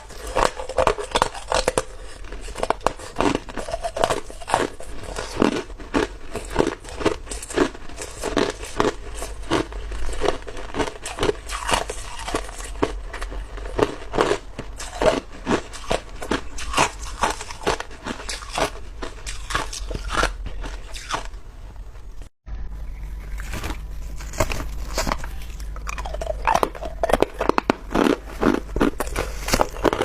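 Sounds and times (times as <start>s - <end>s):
ice being chewed: 0.0s - 21.4s, 23.1s - 30.0s.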